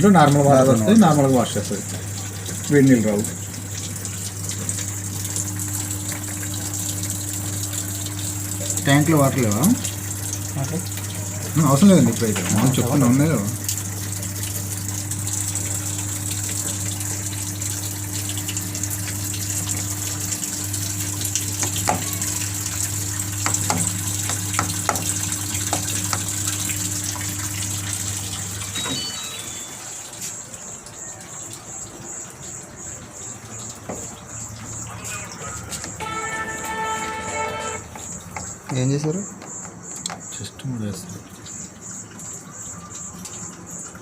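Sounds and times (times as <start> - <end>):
water running into washing machine: 0.0 - 44.0.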